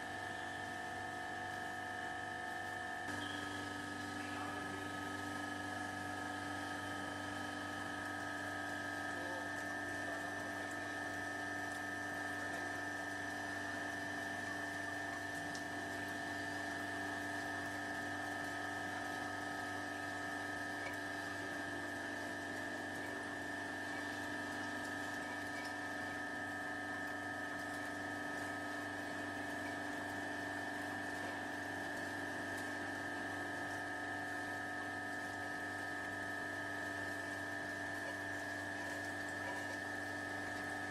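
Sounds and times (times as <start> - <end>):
ice machine humming: 0.0 - 40.9.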